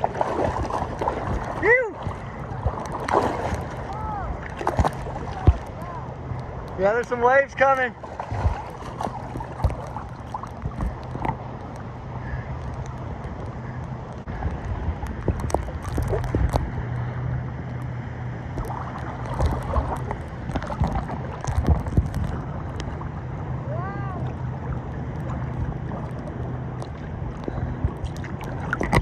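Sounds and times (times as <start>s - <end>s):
paddle strokes splashing water: 0.0s - 16.8s, 18.5s - 29.0s
wind rumble on microphone: 0.0s - 29.0s.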